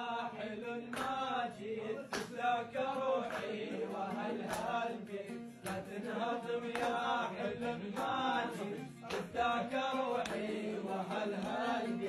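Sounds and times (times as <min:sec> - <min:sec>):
man singing folk song: 0:00.0 - 0:12.0
plucked oud: 0:01.4 - 0:12.0.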